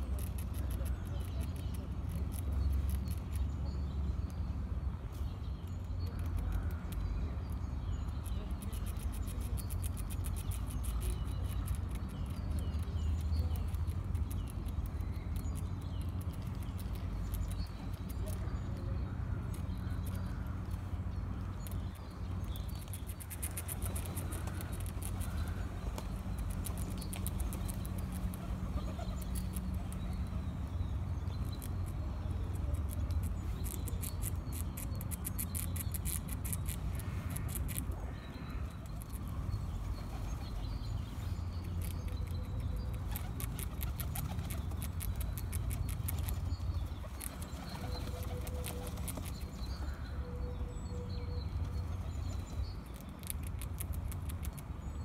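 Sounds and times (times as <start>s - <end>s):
squirrel gnawing nut shell: 0.0s - 4.4s, 5.5s - 40.0s, 40.7s - 49.8s, 52.6s - 54.8s.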